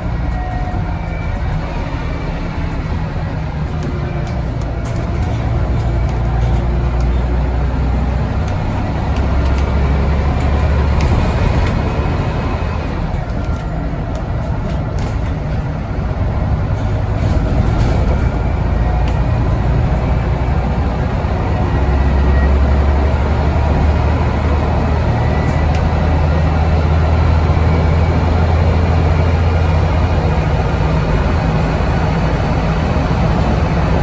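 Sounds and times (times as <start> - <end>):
bus engine running: 0.0 - 34.0.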